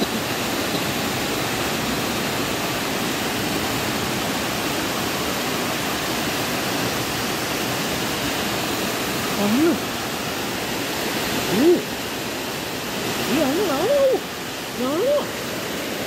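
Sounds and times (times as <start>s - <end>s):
waterfall rushing into a pool: 0.0s - 16.0s.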